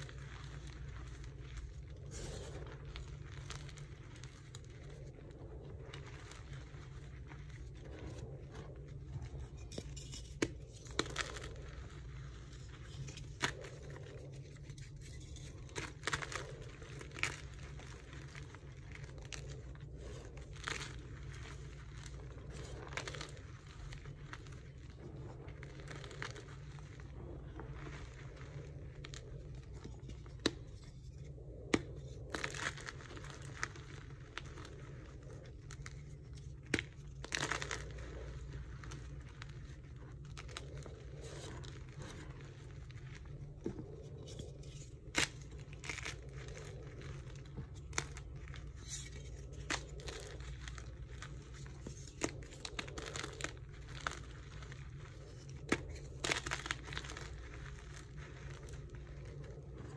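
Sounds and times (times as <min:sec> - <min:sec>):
chalk crunching and rustling: 0:00.0 - 0:59.9
steady low hum: 0:00.0 - 0:59.9.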